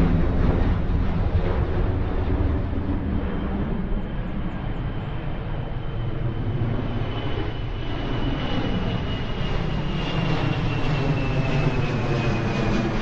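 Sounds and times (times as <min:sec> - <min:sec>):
aircraft engines rumbling: 0:00.0 - 0:13.0.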